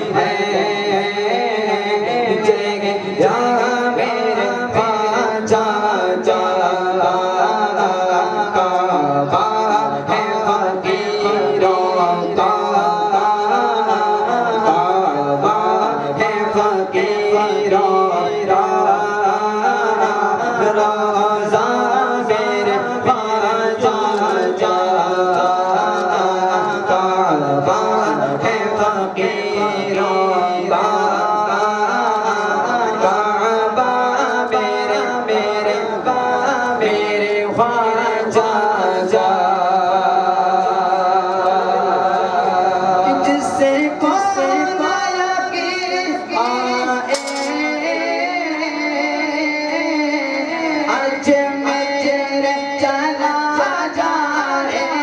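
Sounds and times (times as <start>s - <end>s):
man singing devotional song: 0.0s - 55.0s.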